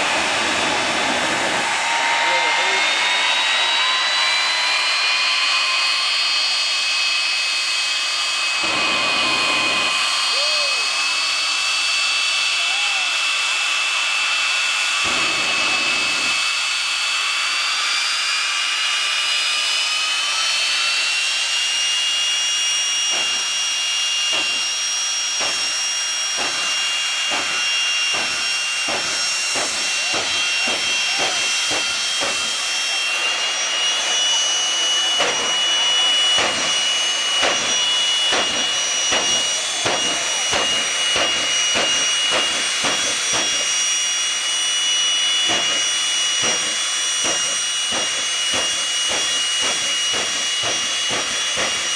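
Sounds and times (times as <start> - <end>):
turbine engine whine: 0.0 - 51.9.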